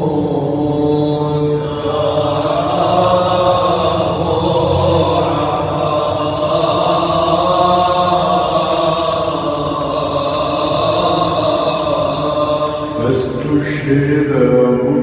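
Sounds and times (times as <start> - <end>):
voices chanting: 0.0 - 14.1.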